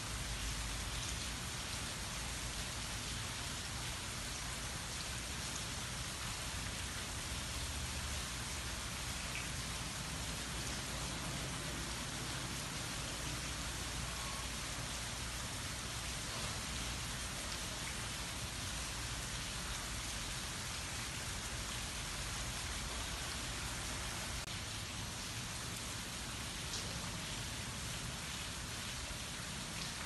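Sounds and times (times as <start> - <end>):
light rain on trees and grass: 0.0 - 30.0.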